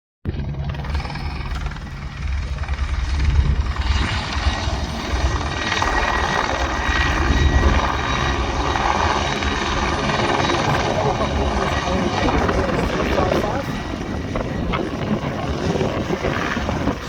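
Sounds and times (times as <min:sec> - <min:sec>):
helicopter rotor beat: 0:00.3 - 0:17.0
turbine whine: 0:00.3 - 0:17.0.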